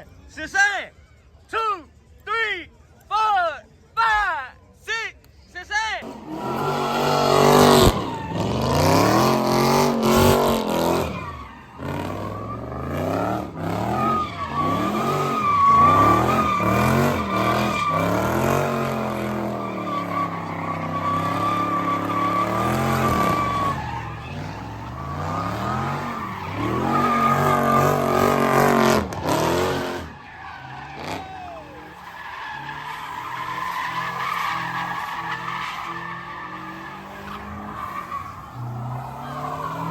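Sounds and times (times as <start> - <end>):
car engine revving: 6.0 - 39.9
tyres squealing: 6.0 - 39.9.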